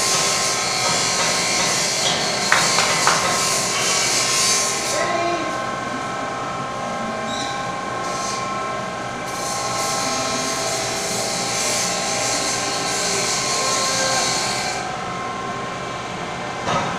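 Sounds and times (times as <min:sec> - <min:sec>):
workshop machinery drone: 0:00.0 - 0:16.9.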